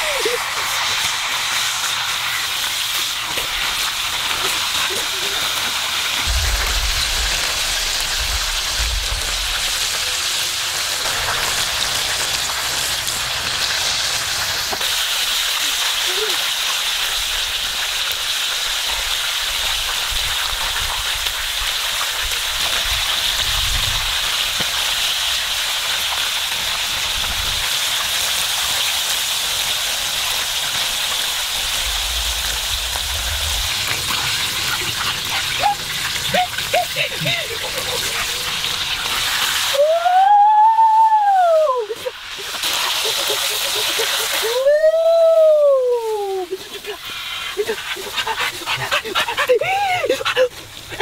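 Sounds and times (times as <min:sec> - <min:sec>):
oil sizzling and bubbling: 0:00.0 - 0:51.0.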